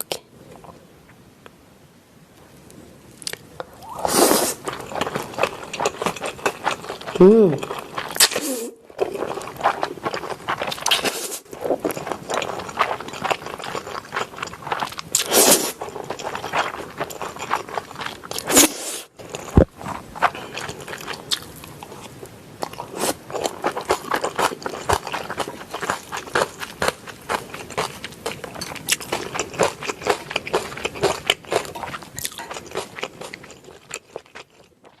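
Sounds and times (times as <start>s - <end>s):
person chewing noodles: 3.2s - 35.0s.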